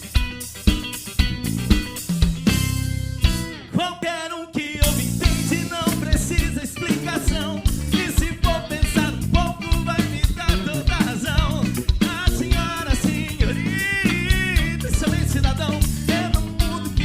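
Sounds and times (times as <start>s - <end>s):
pop-rock band playing: 0.0s - 17.0s.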